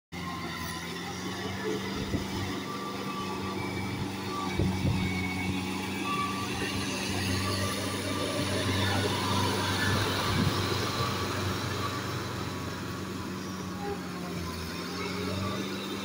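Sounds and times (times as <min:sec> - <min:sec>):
tractor diesel engine running: 0:00.2 - 0:16.0.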